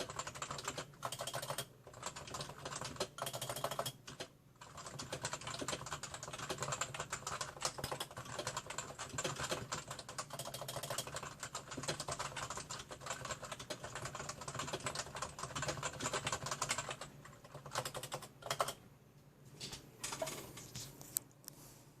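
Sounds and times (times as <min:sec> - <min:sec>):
keyboard typing: 0:00.0 - 0:18.8, 0:19.6 - 0:21.1.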